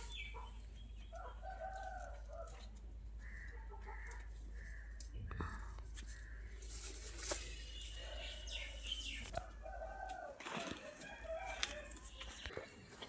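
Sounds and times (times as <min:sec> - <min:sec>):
farmyard birds calling: 0:00.0 - 0:13.0.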